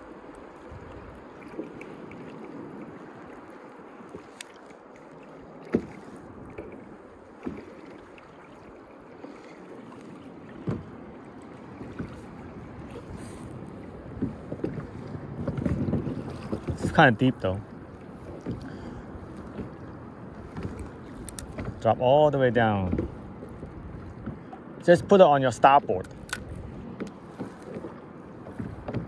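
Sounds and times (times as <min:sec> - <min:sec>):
waves lapping against kayak hull: 0:00.0 - 0:29.0.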